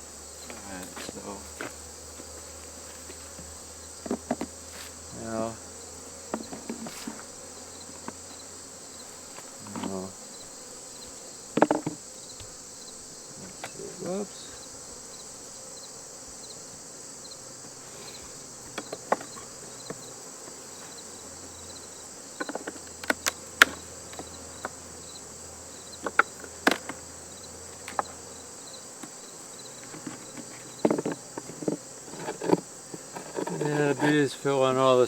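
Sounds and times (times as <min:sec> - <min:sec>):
wooden hive frames knocking: 0:00.0 - 0:35.0.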